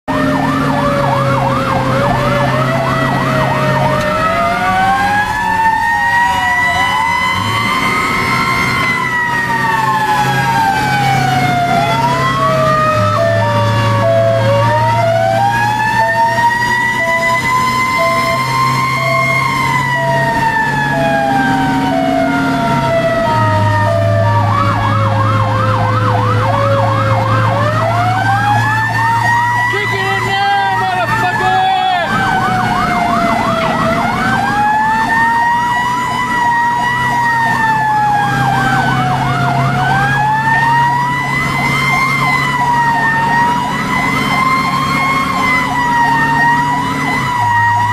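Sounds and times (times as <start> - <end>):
fire truck sirens: 0.0 - 47.9
truck engine running: 0.1 - 47.9.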